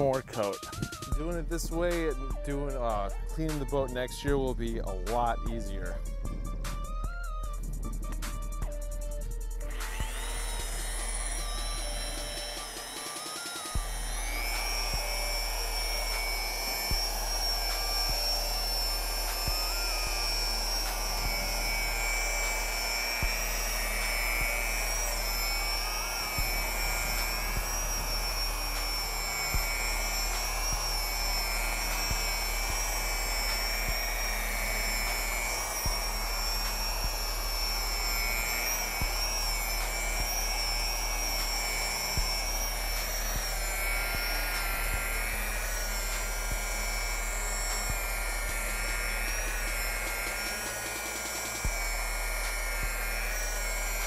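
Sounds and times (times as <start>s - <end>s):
electric polisher whining: 0.0s - 54.0s.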